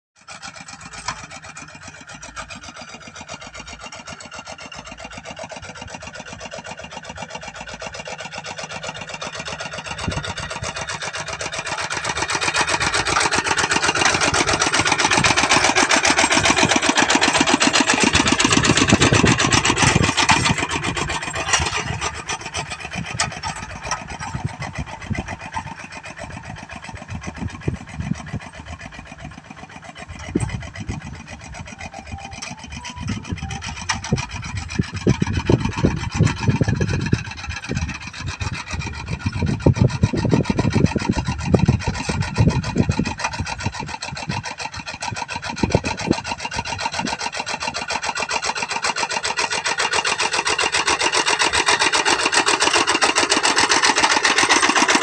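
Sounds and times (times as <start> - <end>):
small engine running: 0.2 - 55.0.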